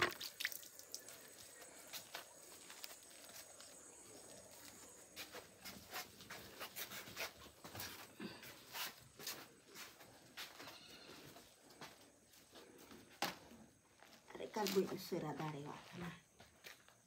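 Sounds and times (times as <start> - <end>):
footsteps: 1.1 - 17.0.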